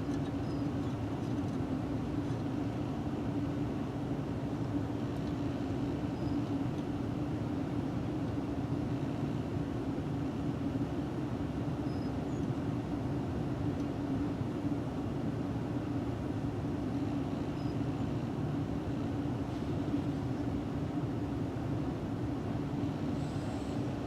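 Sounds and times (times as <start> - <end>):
mechanical hum and rumble: 0.0 - 24.0.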